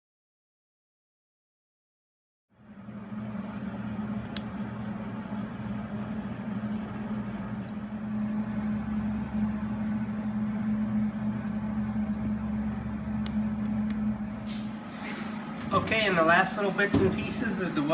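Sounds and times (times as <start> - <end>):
machine hum with low drone: 2.6 - 17.9.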